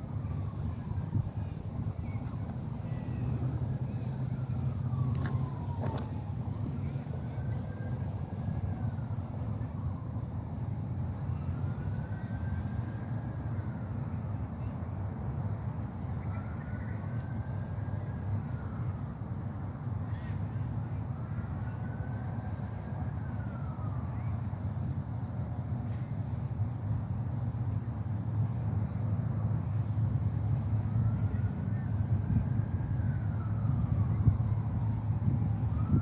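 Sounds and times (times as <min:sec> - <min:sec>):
faint siren wailing: 0:00.0 - 0:36.0.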